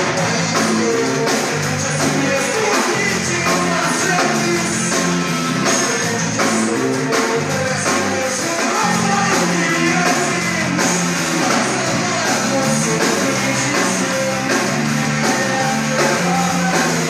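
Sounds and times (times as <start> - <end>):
drum kit: 0.0 - 17.0
electric guitars: 0.0 - 17.0
person singing: 0.0 - 17.0.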